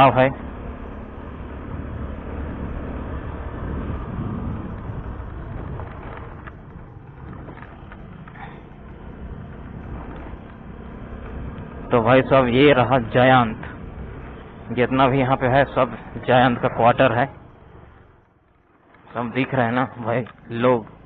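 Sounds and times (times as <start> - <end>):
scooter engine rumble: 0.0 - 21.0
wind: 0.0 - 21.0.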